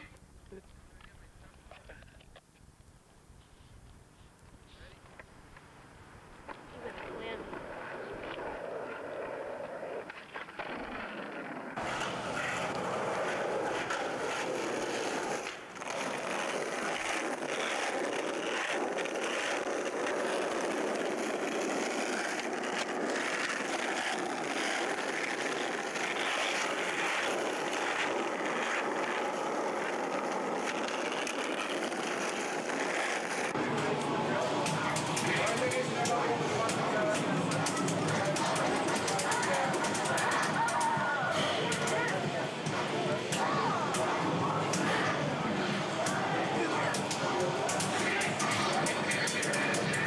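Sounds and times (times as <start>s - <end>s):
skateboard wheels rolling on asphalt: 0.0s - 50.0s
skateboard clicks and knocks: 6.4s - 50.0s.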